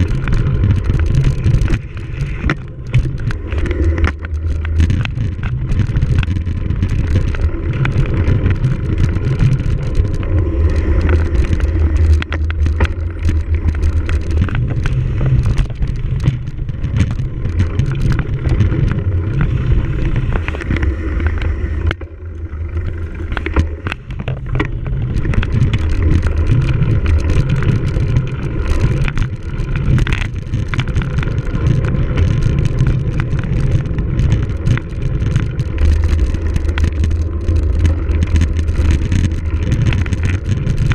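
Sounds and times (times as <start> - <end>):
bike clattering and rattling: 0.0 - 40.9
wind buffeting microphone: 0.0 - 40.9.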